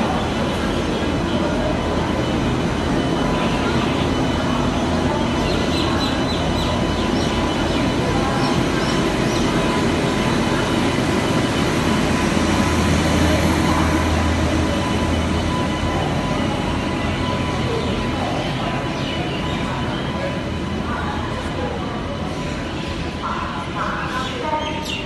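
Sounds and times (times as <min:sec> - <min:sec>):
train rumbling and humming: 0:00.0 - 0:25.0.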